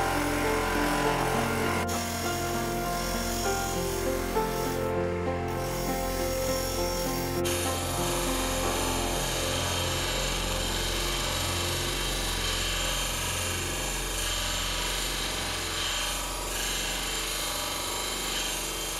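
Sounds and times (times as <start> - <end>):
grinding wheel on metal bar: 0.0 - 4.9, 5.5 - 18.9.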